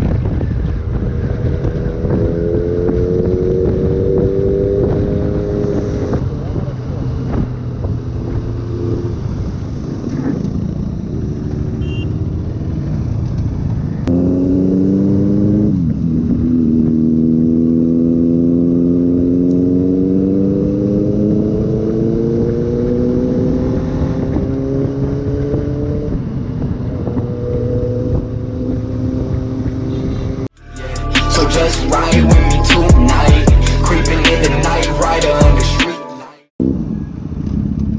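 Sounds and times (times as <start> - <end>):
motorcycle engine accelerating: 0.0 - 35.8
road and wind noise: 0.0 - 35.8, 36.5 - 37.9.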